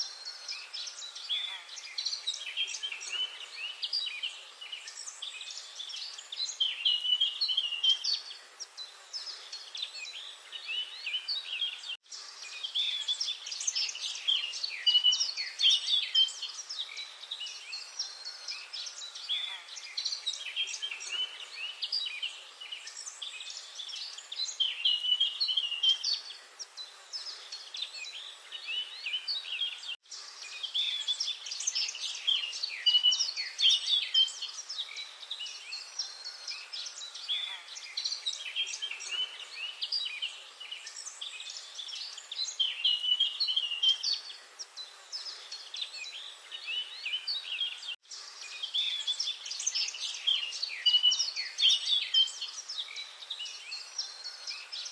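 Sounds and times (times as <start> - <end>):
small birds chirping and twittering: 0.0 - 54.9.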